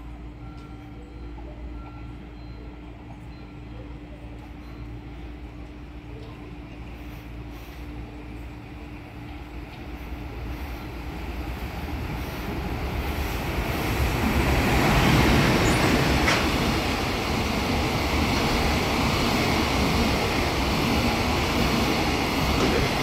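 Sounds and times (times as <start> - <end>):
electric locomotive passing: 0.0 - 23.0
train wheels rolling on track: 4.4 - 23.0.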